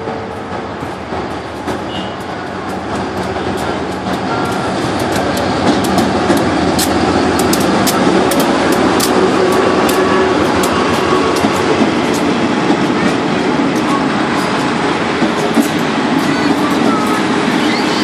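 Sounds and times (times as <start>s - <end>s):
train rumbling past: 0.0s - 18.0s
wheels clacking on rail joints: 0.0s - 18.0s.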